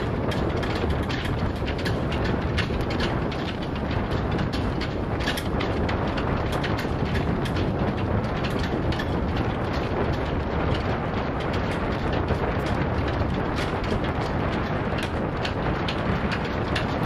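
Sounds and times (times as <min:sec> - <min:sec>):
flags flapping cracks: 0:00.0 - 0:17.0
wind buffeting microphone: 0:00.0 - 0:17.0.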